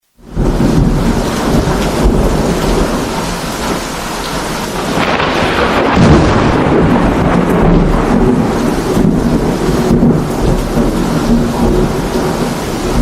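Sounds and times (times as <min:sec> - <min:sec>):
heavy rain: 0:00.0 - 0:13.0
rolling thunder: 0:00.2 - 0:13.0.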